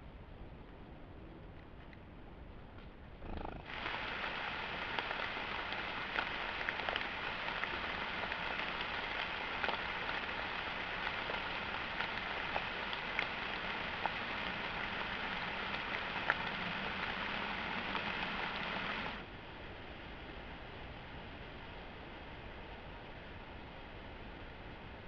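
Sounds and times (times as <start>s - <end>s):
rain hiss: 3.2s - 25.0s.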